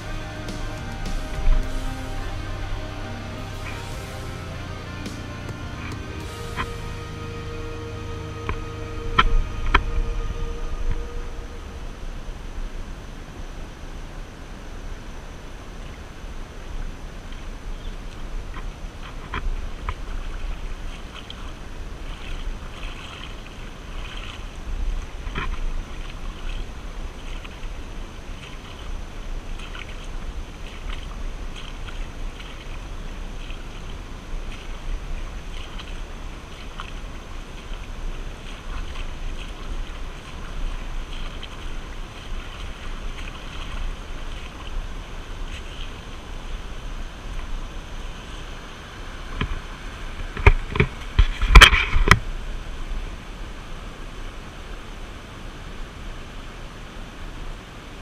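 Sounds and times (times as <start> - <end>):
creek water running and splashing: 0.0 - 58.0
wind rumbling on microphone: 6.1 - 58.0.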